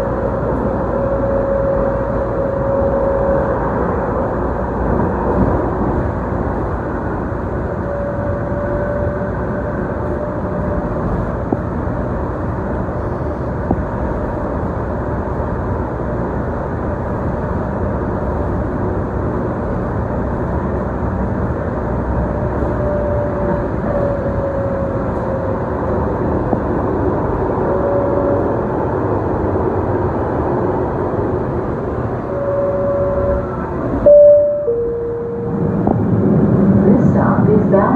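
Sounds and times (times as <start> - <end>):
faint whining tone: 0.0 - 15.3, 21.9 - 37.8
light rail wheels on rail: 0.0 - 37.9.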